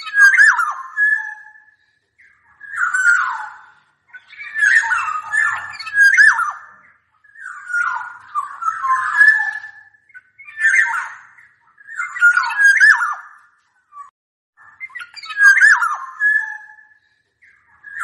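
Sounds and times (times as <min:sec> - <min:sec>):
oriole singing fluting whistles: 0:00.0 - 0:14.1, 0:14.7 - 0:18.0.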